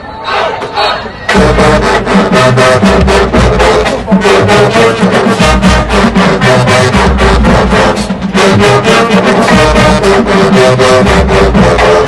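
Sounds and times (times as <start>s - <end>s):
marching band brass and drums: 0.3s - 12.0s.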